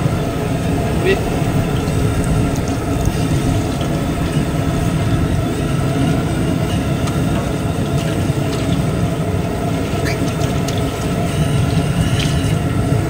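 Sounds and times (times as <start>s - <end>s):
stove flame rumbling: 0.0s - 12.0s.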